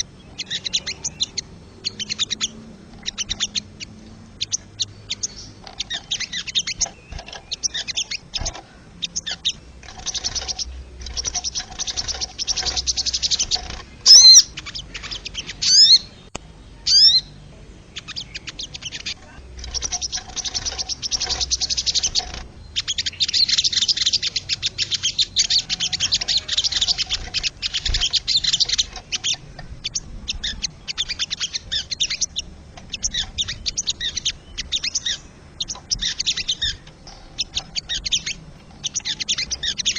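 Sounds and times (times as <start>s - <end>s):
jay rattling chatter: 0.0s - 16.2s, 16.8s - 39.9s
whistled bird notes: 0.0s - 39.9s.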